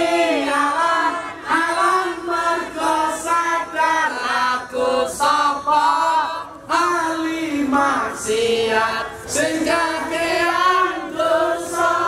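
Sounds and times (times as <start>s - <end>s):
voices singing together: 0.0s - 12.0s.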